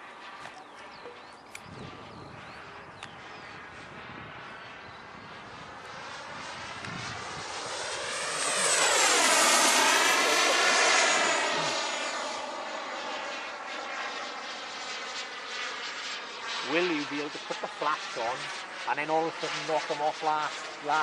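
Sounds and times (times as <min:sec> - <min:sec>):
model jet turbine whining: 0:00.0 - 0:21.0.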